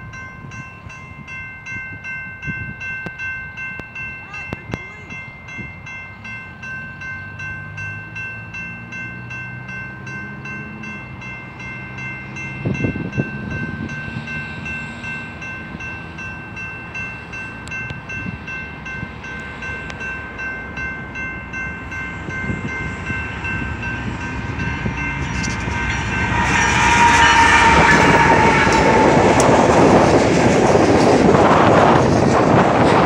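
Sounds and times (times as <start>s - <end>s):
crossing warning bell ringing: 0.0s - 33.0s
train engine and wheels roaring: 0.0s - 33.0s.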